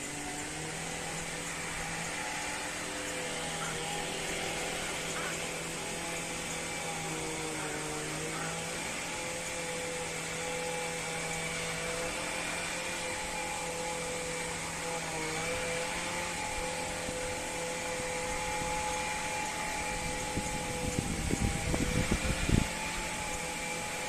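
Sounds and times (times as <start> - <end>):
hiss: 0.0 - 24.0
machine hum and whine: 0.0 - 24.0.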